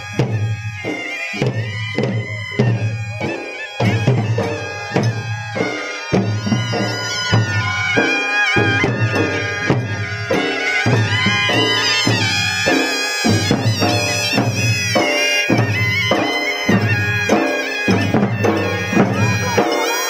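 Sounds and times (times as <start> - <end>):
large drums beating: 0.0 - 20.0
reedy wind instrument melody: 0.0 - 20.0.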